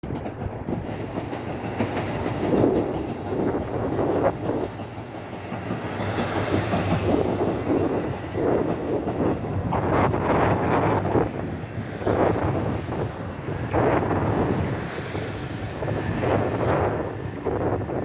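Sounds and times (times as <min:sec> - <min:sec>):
railcar engine drone: 0:00.0 - 0:18.0
wheels clicking over rail joints: 0:00.0 - 0:18.0.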